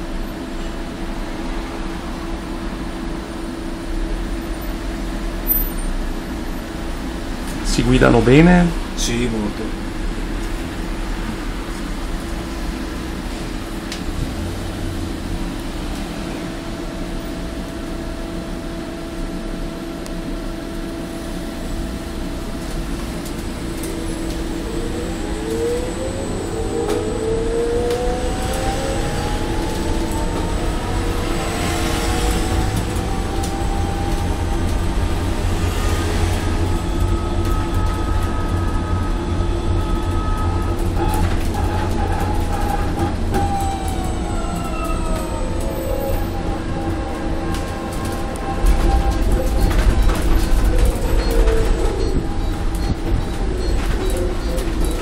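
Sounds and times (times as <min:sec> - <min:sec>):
bus drive whine: 0:00.0 - 0:55.0
bus hum and rumble: 0:00.0 - 0:55.0.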